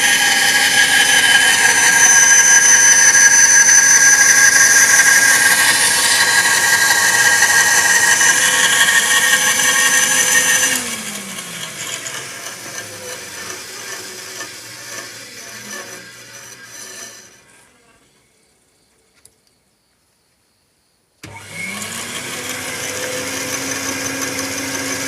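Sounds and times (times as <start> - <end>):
electric saw motor whining: 0.0 - 17.8, 21.2 - 25.0.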